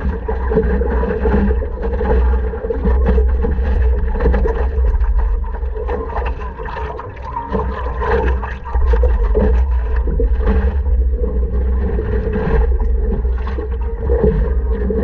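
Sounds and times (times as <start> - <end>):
paddle splashes: 0.0 - 15.0
water lapping against board: 0.0 - 15.0
wind rumble on microphone: 0.0 - 15.0.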